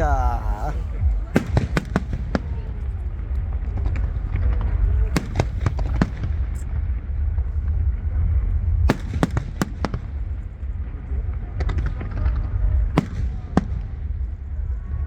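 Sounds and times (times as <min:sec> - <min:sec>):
fireworks booming: 0:00.0 - 0:15.0
fireworks sharp cracks: 0:00.1 - 0:14.4.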